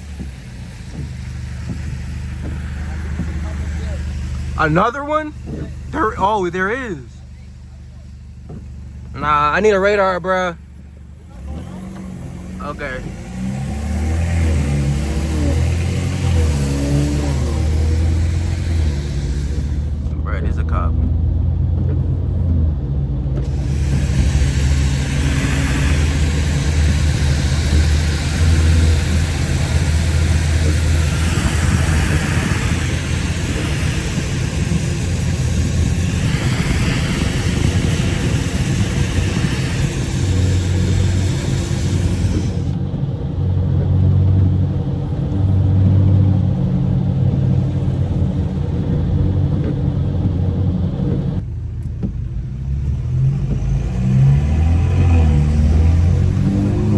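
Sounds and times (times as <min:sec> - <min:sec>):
car engine droning: 0:00.0 - 0:56.9
road noise hiss: 0:00.0 - 0:56.9.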